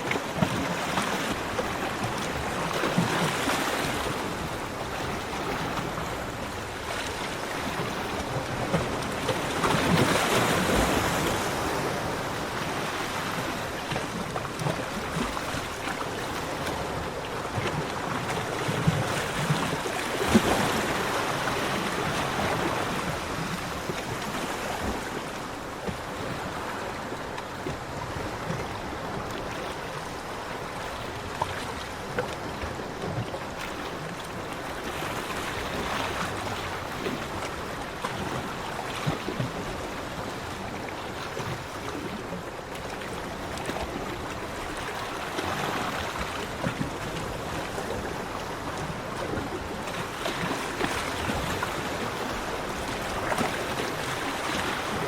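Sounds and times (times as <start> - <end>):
ocean waves on a beach: 0.0 - 55.0.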